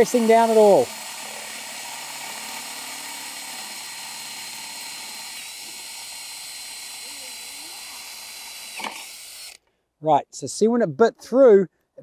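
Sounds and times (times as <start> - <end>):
cordless drill whining: 0.0 - 9.6.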